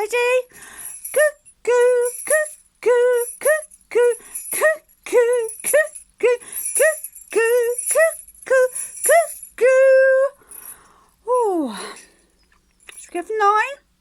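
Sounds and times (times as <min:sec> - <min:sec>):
jingle bells shaken: 0:00.0 - 0:11.9.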